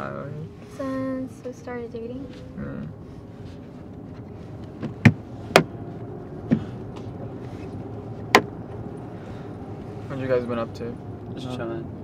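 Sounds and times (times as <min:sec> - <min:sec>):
car cabin road noise: 0:00.0 - 0:12.0.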